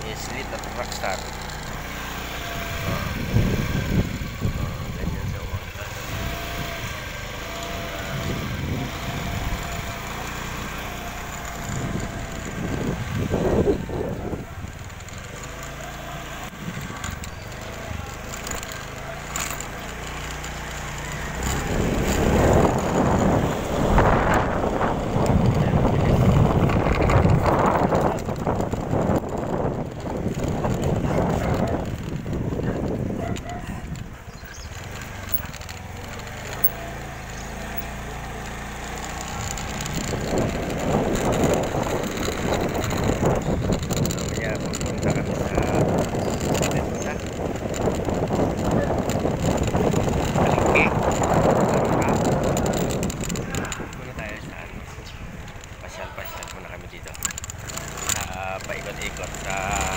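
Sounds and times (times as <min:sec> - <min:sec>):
wind buffeting microphone: 0:00.0 - 0:15.2, 0:21.1 - 0:59.9
motorcycle engine: 0:00.0 - 0:59.9
sharp clicks: 0:05.9 - 0:59.9.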